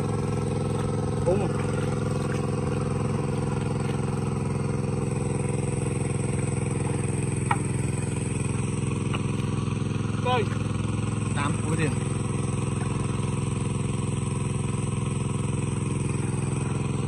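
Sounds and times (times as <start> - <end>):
water pump engine running: 0.0 - 17.0.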